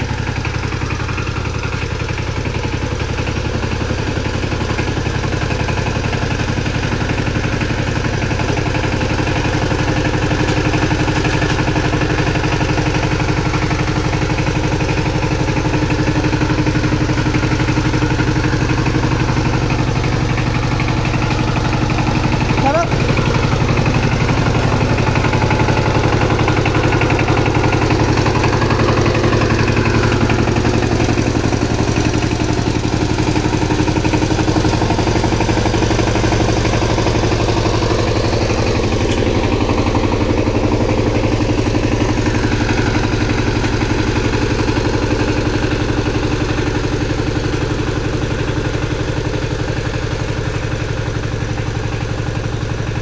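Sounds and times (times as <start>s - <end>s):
diesel tiller engine running: 0.0s - 53.0s.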